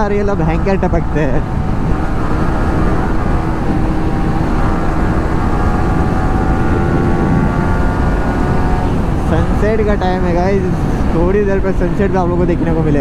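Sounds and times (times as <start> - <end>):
motorcycle engine: 0.0 - 13.0
wind rushing over microphone: 0.0 - 13.0.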